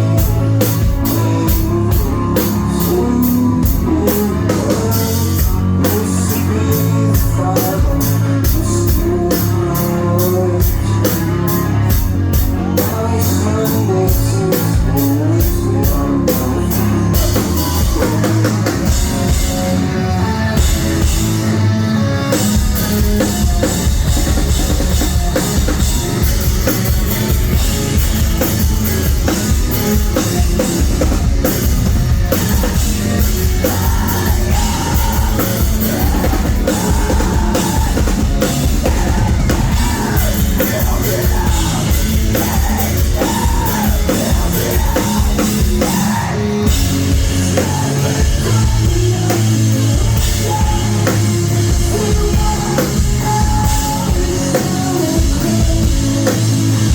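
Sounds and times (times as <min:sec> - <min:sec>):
drum kit: 0:00.0 - 0:56.9
live rock band playing: 0:00.0 - 0:56.9.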